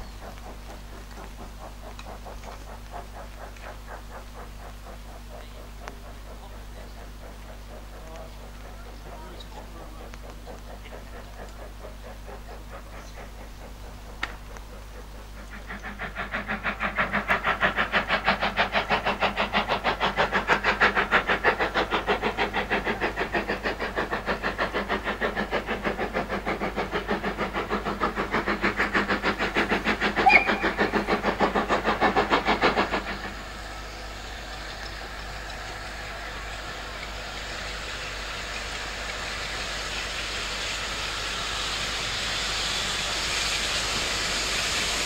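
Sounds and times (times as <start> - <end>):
train passing rhythmic beats: 0.0 - 45.0.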